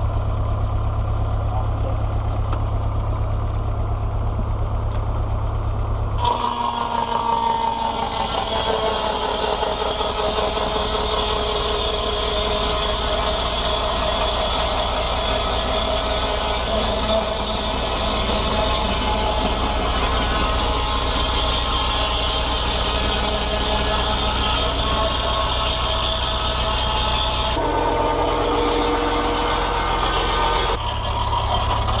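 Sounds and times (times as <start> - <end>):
tractor running: 0.0 - 32.0
circular saw running: 5.7 - 32.0.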